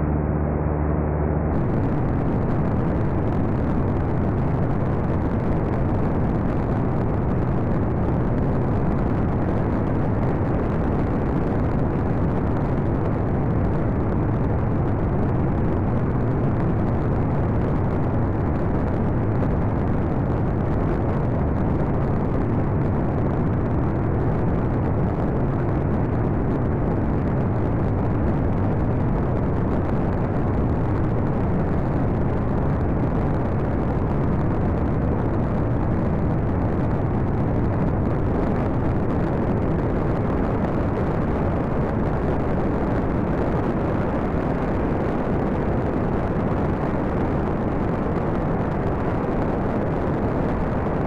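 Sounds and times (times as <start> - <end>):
light aircraft in-flight noise: 0.0 - 51.0.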